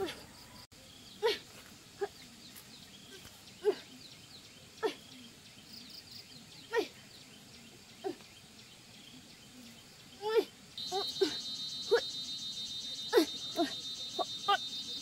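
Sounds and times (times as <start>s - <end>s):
high chirping of insects or birds: 0.0s - 15.0s.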